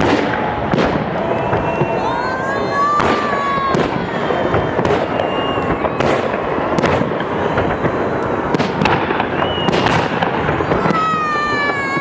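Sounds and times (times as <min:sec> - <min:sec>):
fireworks crackling: 0:00.0 - 0:12.0
loud firework bangs: 0:00.0 - 0:12.0.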